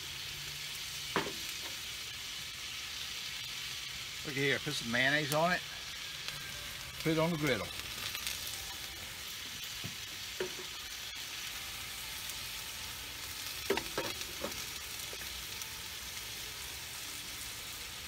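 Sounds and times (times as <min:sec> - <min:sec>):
food sizzling on a griddle: 0:00.0 - 0:18.0.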